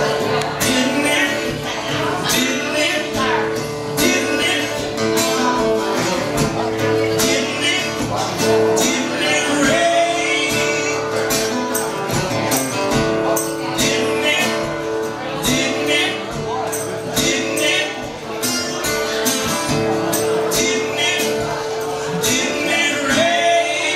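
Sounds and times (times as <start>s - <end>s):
man and woman singing: 0.0s - 11.5s, 13.7s - 18.2s, 20.2s - 23.9s
strummed acoustic guitar: 0.0s - 23.9s.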